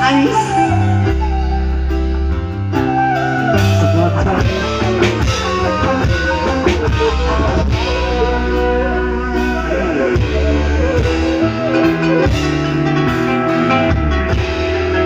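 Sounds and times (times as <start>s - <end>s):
bass notes: 0.0s - 15.0s
drum kit: 0.0s - 15.0s
live band playing: 0.0s - 15.0s
melodic guitar line: 0.0s - 15.0s.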